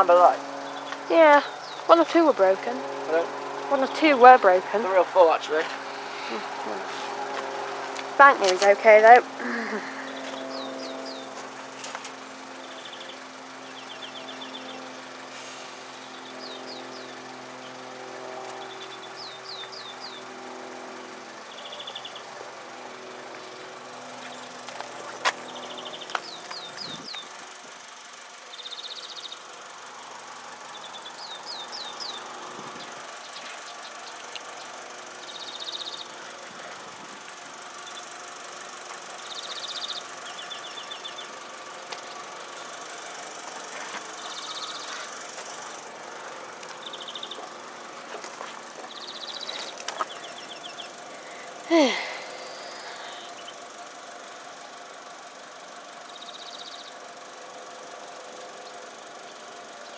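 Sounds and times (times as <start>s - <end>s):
birds chirping and trilling: 0.0s - 55.0s, 55.9s - 59.9s
vehicle engine running: 0.0s - 59.9s.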